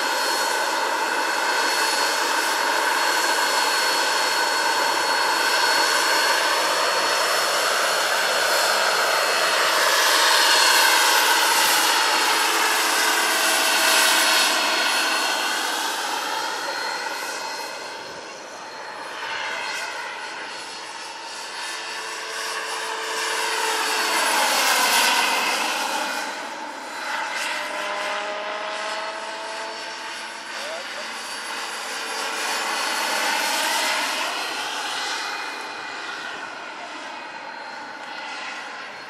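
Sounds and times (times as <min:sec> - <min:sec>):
model helicopter turbine whine: 0:00.0 - 0:39.0.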